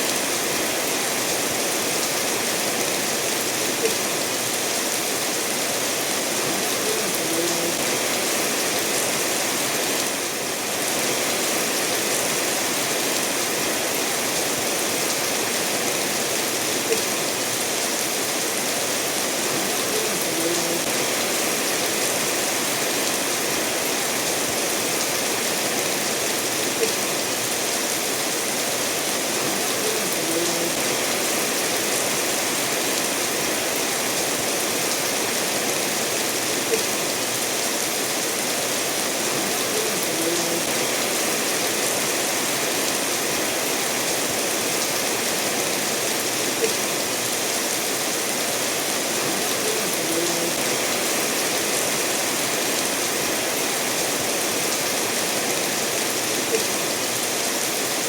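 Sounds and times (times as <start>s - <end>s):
steady rainfall: 0.0s - 58.0s
stream running over stones: 0.0s - 58.0s.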